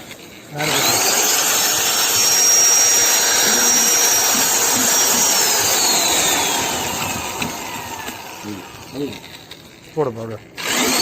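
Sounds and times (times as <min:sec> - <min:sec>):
power tool motor whining: 0:00.0 - 0:09.8, 0:10.6 - 0:11.0.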